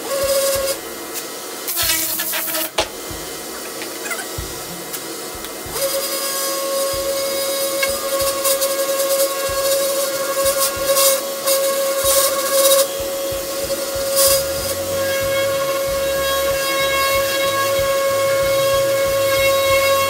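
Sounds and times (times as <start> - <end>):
orbital sander whining: 0.0 - 20.0
sanding hiss: 0.0 - 20.0.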